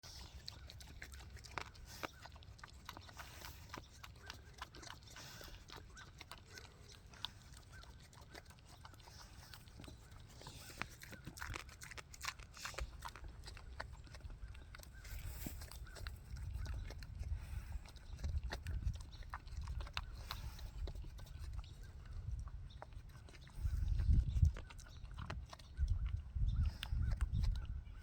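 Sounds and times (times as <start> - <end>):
pig chewing and smacking: 0.0 - 28.0.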